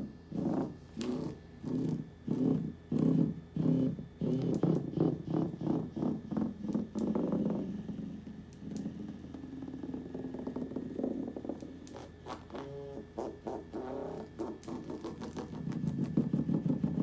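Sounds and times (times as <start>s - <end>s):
vibrator motor buzzing: 0.0s - 17.0s.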